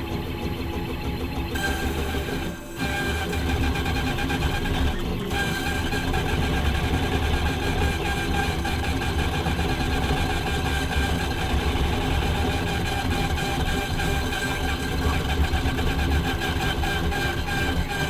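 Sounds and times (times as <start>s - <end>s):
router spindle whine: 0.0s - 18.0s
stepper motors droning: 0.0s - 18.0s.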